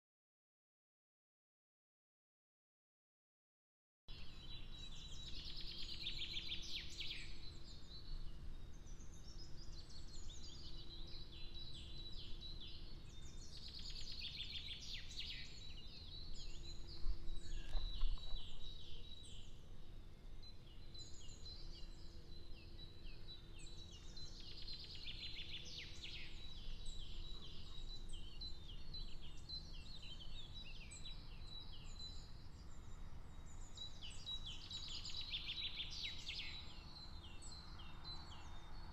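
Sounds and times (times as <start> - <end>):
songbirds chirping: 4.1 - 38.9.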